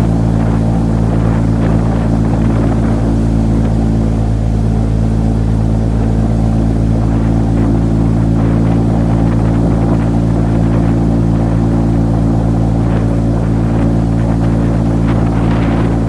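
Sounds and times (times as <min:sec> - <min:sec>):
airboat engine and propeller drone: 0:00.0 - 0:16.0.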